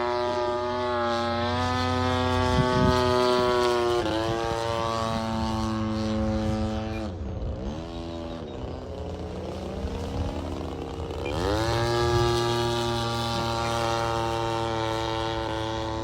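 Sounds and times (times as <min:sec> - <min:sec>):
model plane motor and propeller: 0:00.0 - 0:16.0.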